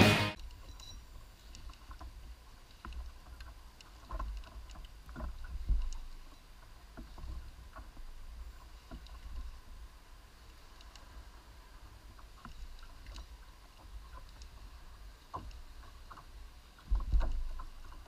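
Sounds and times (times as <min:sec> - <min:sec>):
water lapping against kayak hull: 0:01.7 - 0:18.0.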